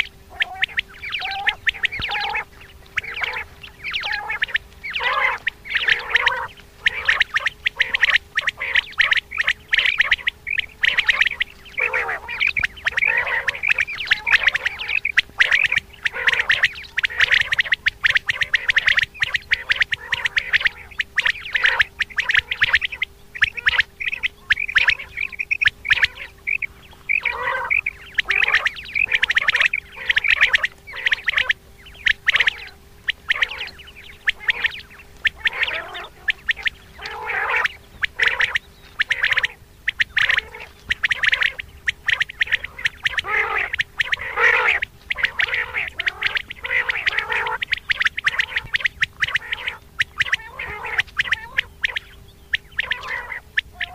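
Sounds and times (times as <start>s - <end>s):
faint steady hum: 0.0s - 53.9s
quail calling: 0.0s - 53.9s.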